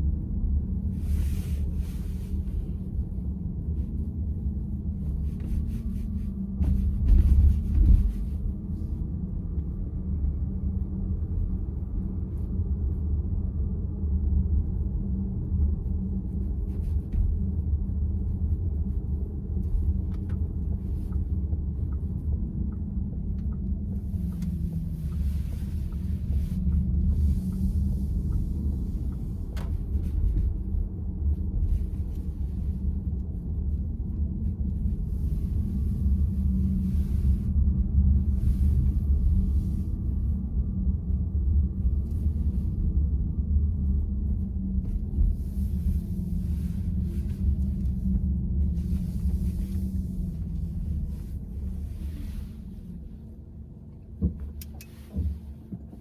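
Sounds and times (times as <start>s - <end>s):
road and tyre rumble in car: 0.0s - 56.0s.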